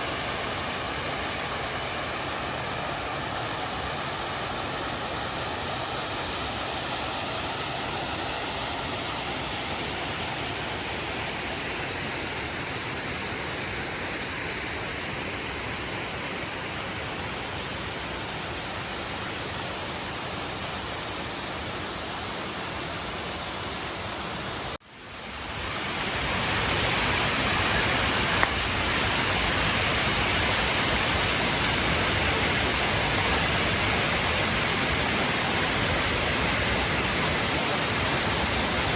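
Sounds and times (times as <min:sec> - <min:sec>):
waterfall rushing: 0:00.0 - 0:16.7, 0:20.8 - 0:38.9.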